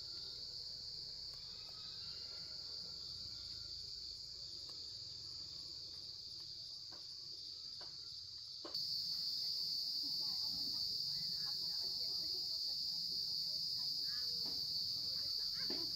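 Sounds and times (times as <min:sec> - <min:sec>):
high-pitched insect chorus: 0:00.0 - 0:15.9.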